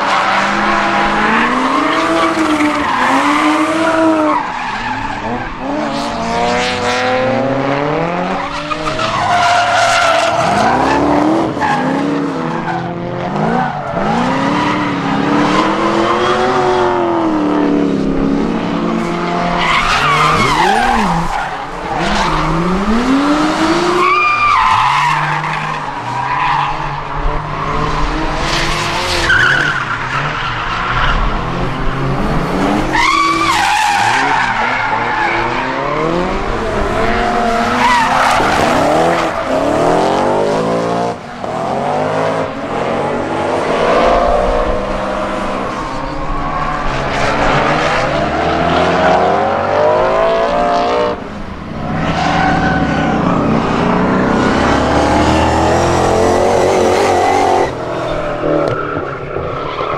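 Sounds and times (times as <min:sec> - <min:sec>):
car engines revving hard: 0:00.0 - 0:59.9.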